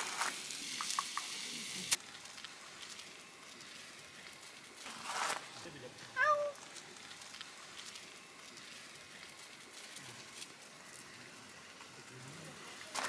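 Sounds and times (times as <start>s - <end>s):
steady hiss: 0.0s - 13.0s
light ticks and rustles: 0.2s - 13.0s.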